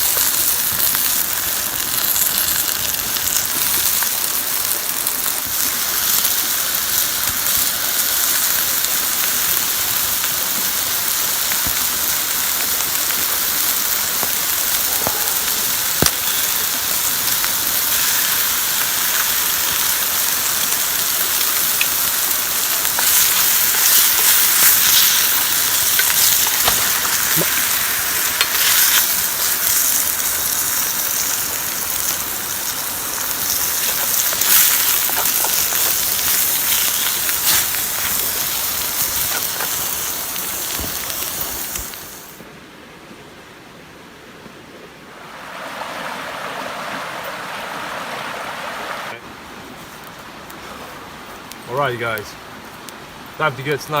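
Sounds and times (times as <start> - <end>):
fire pops and crackles: 0.0 - 42.4, 49.8 - 54.0
food sizzling over a campfire: 0.0 - 42.5, 45.1 - 54.0.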